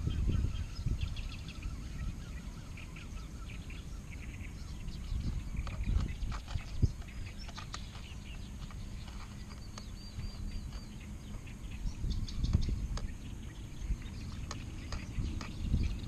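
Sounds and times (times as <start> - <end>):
bird warbling call: 0.0 - 16.0
steady low rumble: 0.0 - 16.0.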